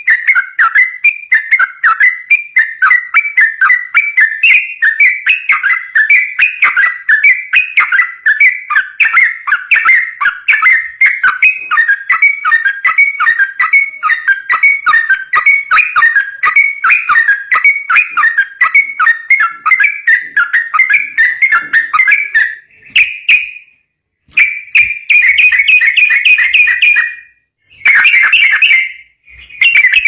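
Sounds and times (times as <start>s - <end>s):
bulbul singing whistled notes: 0.0s - 30.0s.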